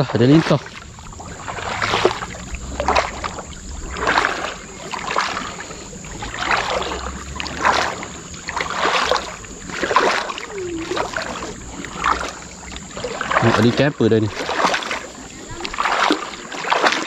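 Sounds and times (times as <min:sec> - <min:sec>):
floodwater sloshing and splashing: 0:00.0 - 0:17.0.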